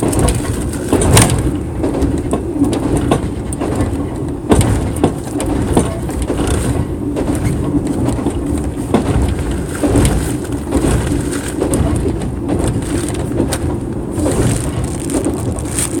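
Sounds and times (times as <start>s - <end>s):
rattles and knocks: 0.0s - 16.0s
train rumbling inside carriage: 0.0s - 16.0s.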